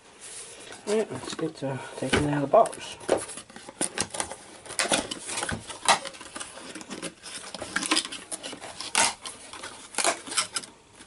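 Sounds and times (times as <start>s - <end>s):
box packaging scrapes and rustles: 0.1s - 11.0s.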